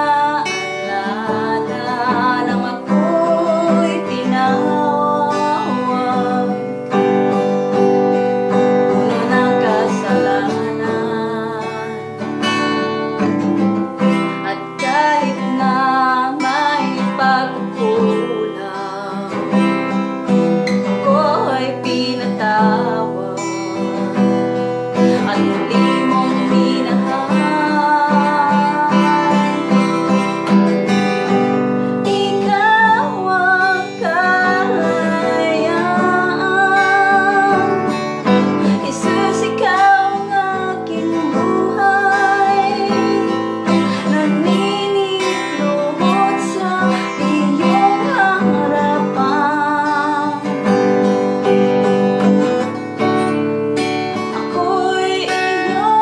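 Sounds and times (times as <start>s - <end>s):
woman singing worship song: 0.0s - 7.2s, 8.9s - 12.3s, 14.3s - 19.8s, 20.7s - 24.1s, 24.9s - 30.3s, 30.9s - 51.0s, 54.2s - 56.0s
strummed acoustic guitar: 0.0s - 56.0s.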